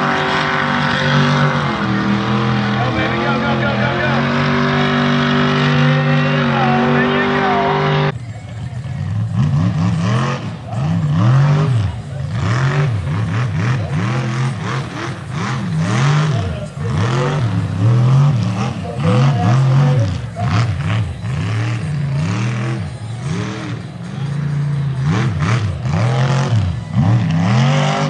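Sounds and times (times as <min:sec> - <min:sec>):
mud and spinning tyres: 0:00.0 - 0:28.0
truck engine revving: 0:00.0 - 0:28.0.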